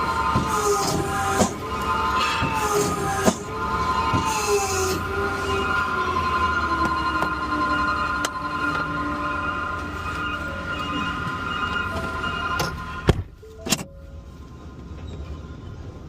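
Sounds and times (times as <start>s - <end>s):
garbage truck hydraulics whining: 0.0s - 16.0s.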